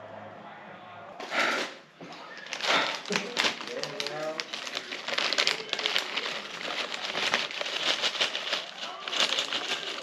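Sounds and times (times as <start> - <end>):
plastic bag crinkling: 1.6 - 10.0.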